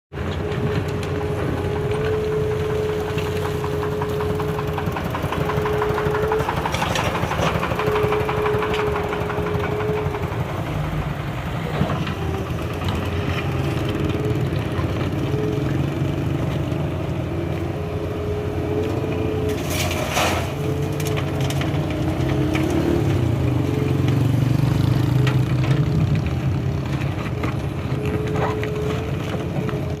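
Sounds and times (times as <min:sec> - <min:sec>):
excavator diesel engine droning: 0:00.1 - 0:30.0.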